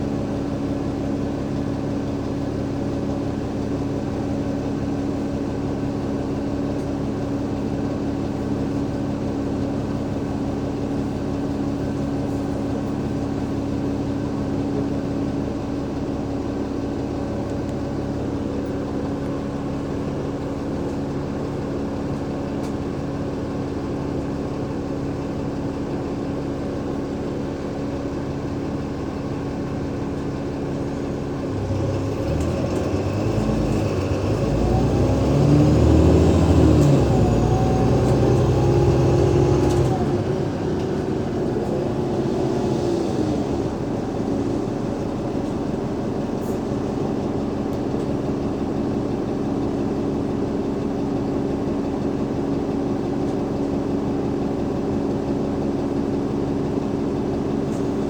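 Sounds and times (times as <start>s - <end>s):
diesel bus engine: 0.0s - 58.0s.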